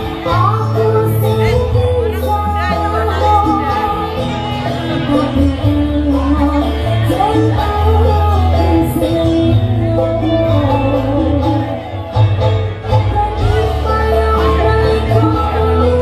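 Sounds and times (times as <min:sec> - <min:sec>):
song with singing voice: 0:00.0 - 0:16.0
steady bass line: 0:00.0 - 0:16.0.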